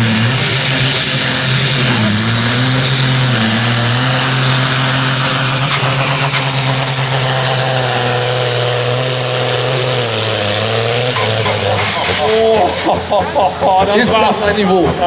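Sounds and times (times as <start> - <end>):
tractor diesel engine at full load: 0.0 - 15.0.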